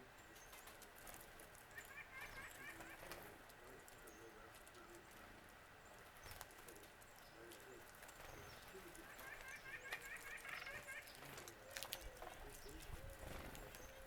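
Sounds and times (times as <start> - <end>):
faint wild birds calling: 0.0 - 14.0.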